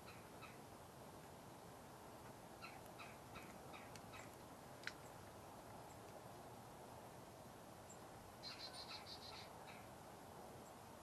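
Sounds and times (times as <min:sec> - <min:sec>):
faint outdoor hiss: 0:00.0 - 0:11.0
songbirds chirping: 0:00.0 - 0:11.0.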